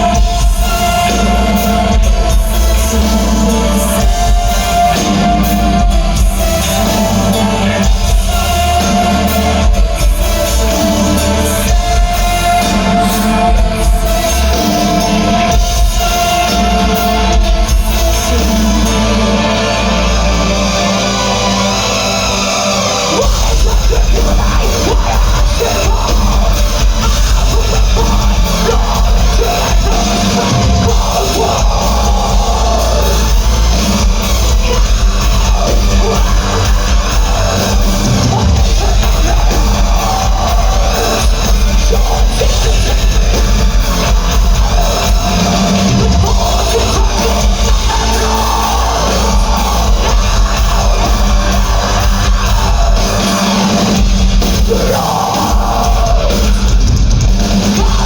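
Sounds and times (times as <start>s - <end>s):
drum kit: 0.0s - 58.0s
heavy metal band playing: 0.0s - 58.0s.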